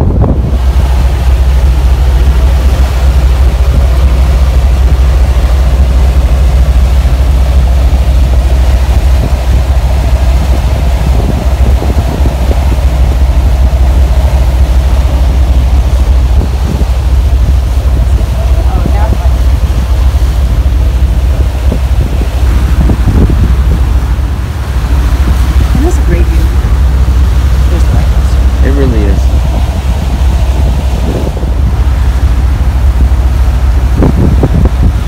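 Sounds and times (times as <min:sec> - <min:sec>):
boat engine drone: 0:00.0 - 0:35.0
wind on microphone: 0:00.0 - 0:35.0.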